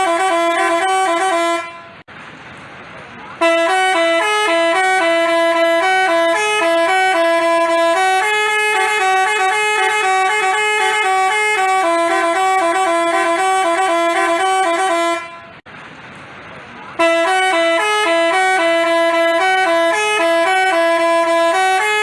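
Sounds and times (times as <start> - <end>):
multi-tone bus horn tune: 0.0 - 2.1, 3.4 - 15.6, 16.9 - 22.0.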